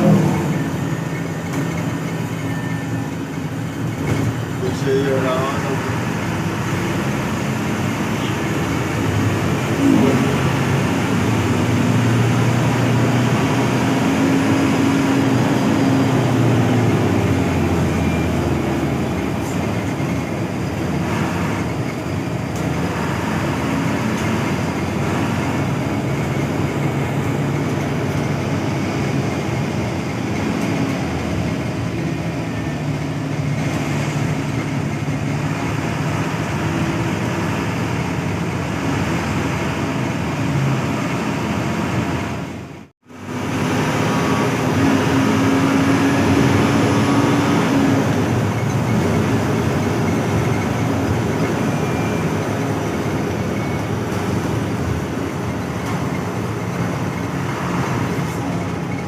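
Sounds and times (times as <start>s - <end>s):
diesel bus engine: 0.0s - 59.0s
road noise: 0.0s - 59.0s.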